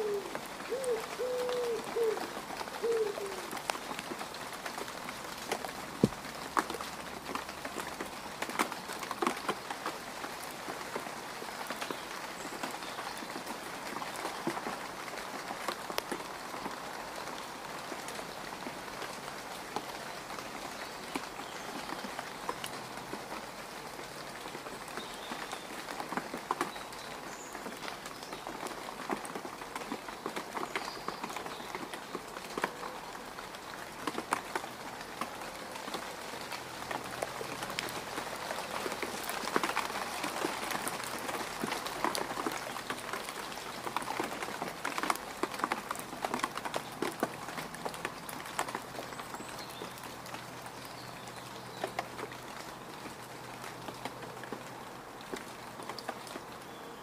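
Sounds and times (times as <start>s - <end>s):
raindrops ticking: 0.0s - 57.0s.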